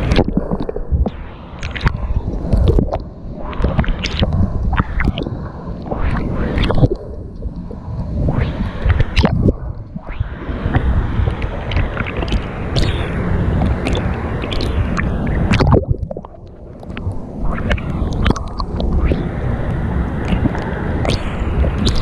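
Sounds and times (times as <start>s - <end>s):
water sloshing and splashing: 0.0s - 19.2s
low wind rumble: 0.0s - 22.0s.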